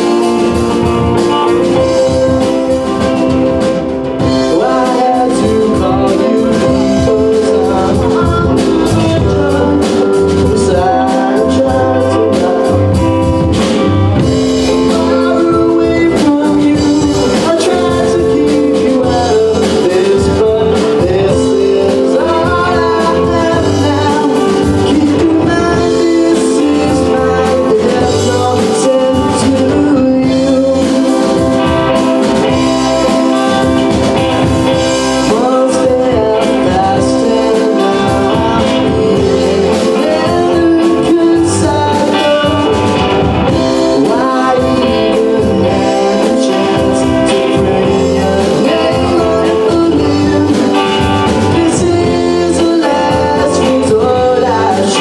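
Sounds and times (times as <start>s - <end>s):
bass guitar: 0.0s - 55.0s
drum kit: 0.0s - 55.0s
electric guitar: 0.0s - 55.0s
stage piano: 0.0s - 55.0s.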